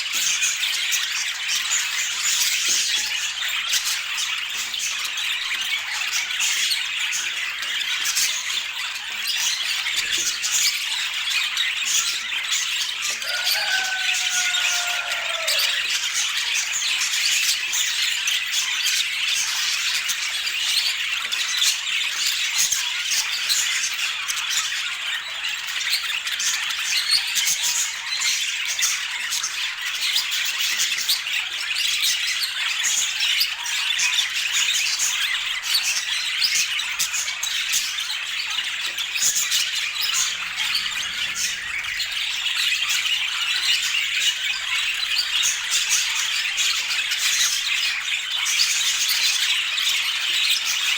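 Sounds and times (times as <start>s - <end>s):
budgerigars chattering and squawking: 0.0s - 50.9s.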